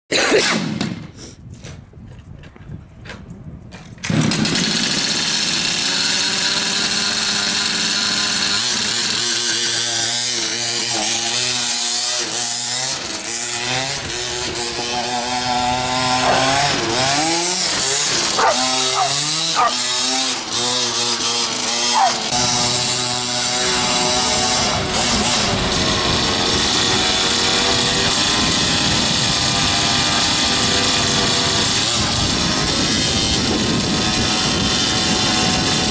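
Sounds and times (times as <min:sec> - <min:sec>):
small two-stroke engine revving: 0:04.0 - 0:35.9.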